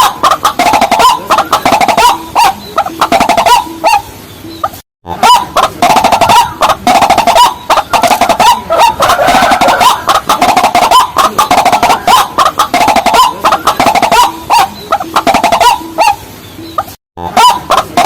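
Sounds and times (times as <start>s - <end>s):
waterhens clucking: 0.0s - 18.0s.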